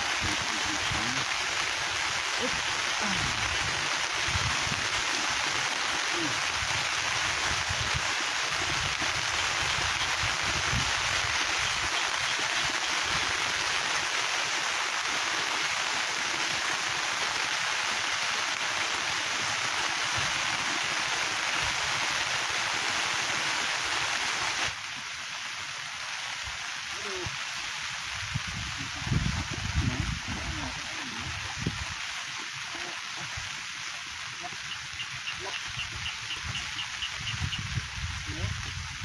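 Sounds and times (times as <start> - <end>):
rain falling: 0.0 - 39.0.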